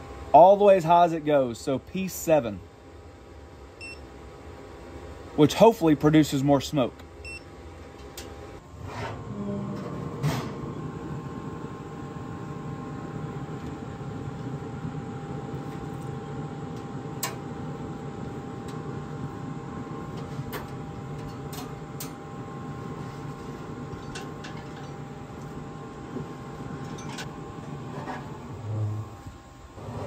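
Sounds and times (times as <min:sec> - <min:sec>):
grill fan hum with whine: 0:00.0 - 0:30.0.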